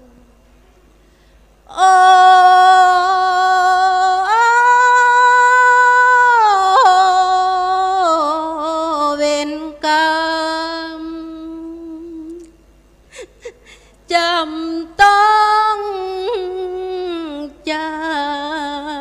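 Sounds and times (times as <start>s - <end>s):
woman chanting unaccompanied: 0.0s - 0.3s, 1.7s - 12.5s, 14.1s - 19.0s.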